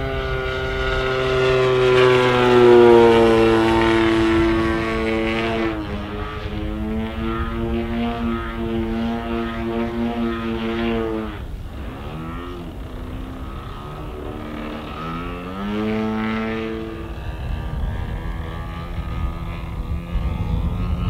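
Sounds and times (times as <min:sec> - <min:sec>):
model plane engine running: 0:00.0 - 0:21.0.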